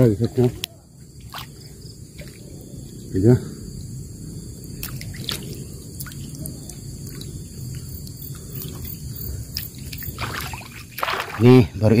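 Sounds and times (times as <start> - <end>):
water splashes and drips: 0.2 - 2.7, 4.6 - 12.0
steady low rumble: 0.8 - 10.9.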